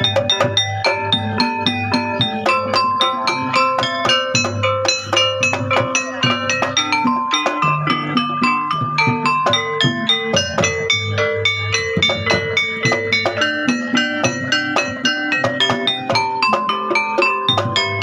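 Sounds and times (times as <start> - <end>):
tuned percussion notes: 0.0 - 18.0.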